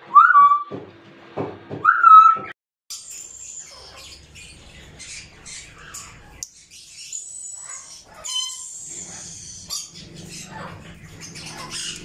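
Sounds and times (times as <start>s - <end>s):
parrots squeaking and chirping: 1.8s - 12.0s.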